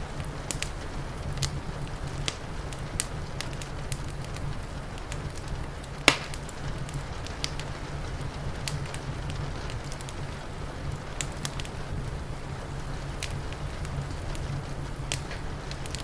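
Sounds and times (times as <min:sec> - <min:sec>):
rain hissing: 0:00.0 - 0:16.0
wood fire crackling and popping: 0:00.0 - 0:16.0.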